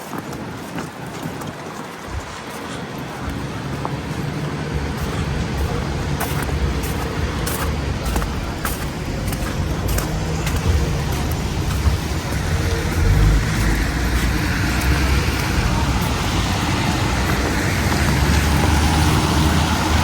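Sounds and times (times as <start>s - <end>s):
vehicle engine low rumble: 3.0s - 20.0s.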